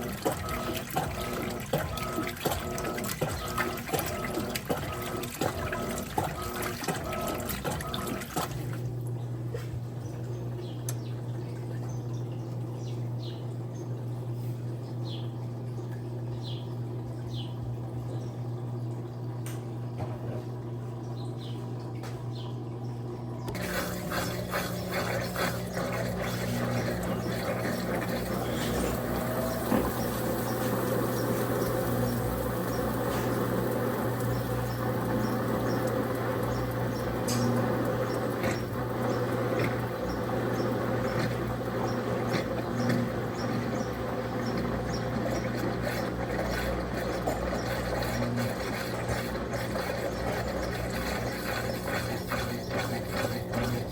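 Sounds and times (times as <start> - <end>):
washing machine motor hum: 0.0 - 53.9
water running in washing machine tub: 0.0 - 53.9.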